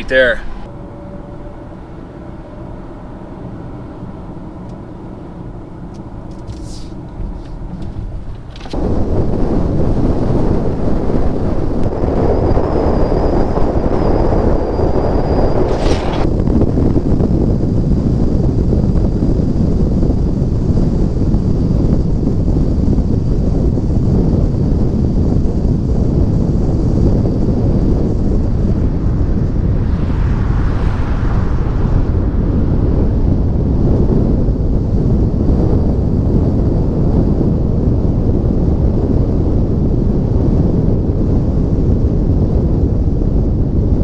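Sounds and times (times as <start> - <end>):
vehicle humming: 0.0 - 38.0
wind noise on microphone: 0.0 - 44.0.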